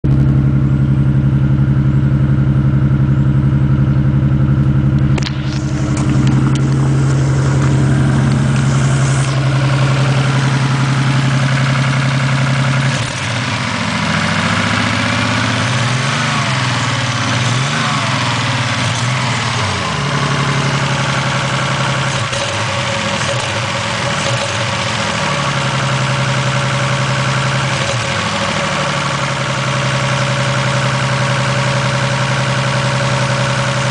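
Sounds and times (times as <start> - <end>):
car engine misfiring and revving: 0.0 - 33.9.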